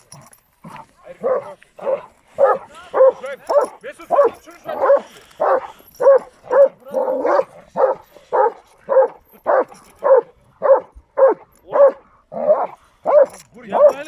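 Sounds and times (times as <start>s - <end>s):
dog barking: 1.2s - 14.0s.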